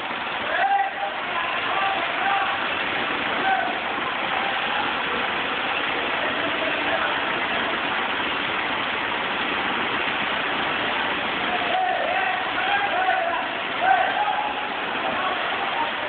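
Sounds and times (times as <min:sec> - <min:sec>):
crane diesel engine running: 0:00.0 - 0:16.0.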